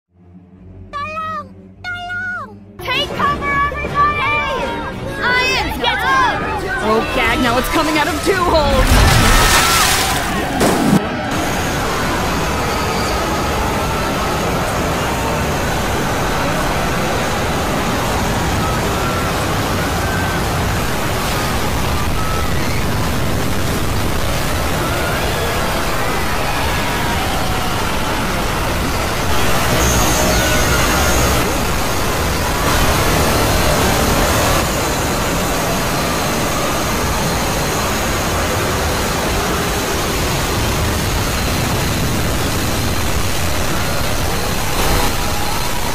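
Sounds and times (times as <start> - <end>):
harsh distorted noise: 6.8 - 45.9.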